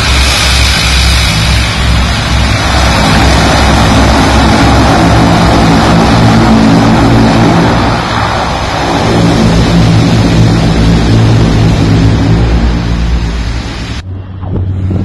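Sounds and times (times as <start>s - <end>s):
rushing noise: 0.0s - 15.0s
turboprop engines droning: 0.0s - 15.0s.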